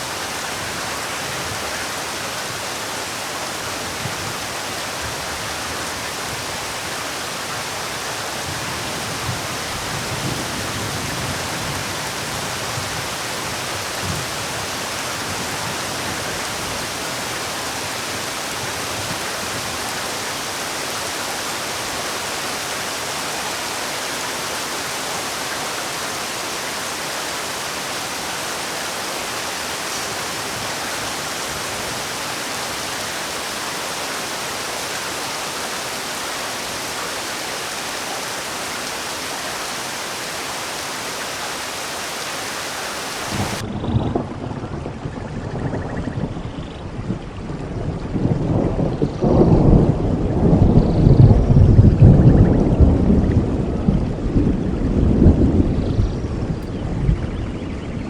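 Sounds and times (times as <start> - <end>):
heavy rainfall: 0.0 - 46.3, 46.9 - 58.0.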